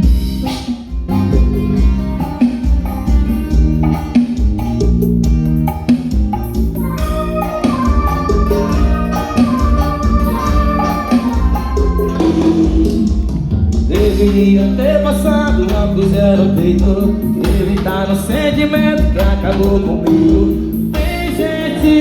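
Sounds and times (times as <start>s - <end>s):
guitar and bass over heavy beat: 0.0s - 22.0s.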